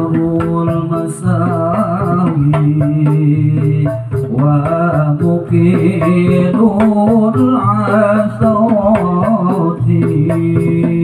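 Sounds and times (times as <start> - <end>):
frame drums beating: 0.0 - 11.0
men singing in unison: 0.0 - 11.0.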